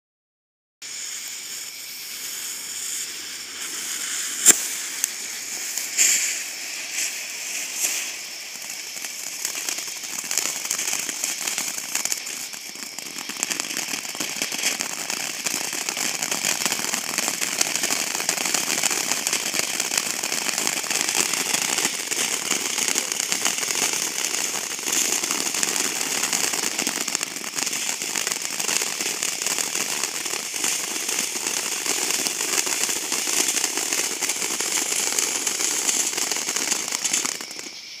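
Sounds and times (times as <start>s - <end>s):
fountain firework crackling hiss: 0.8s - 38.0s.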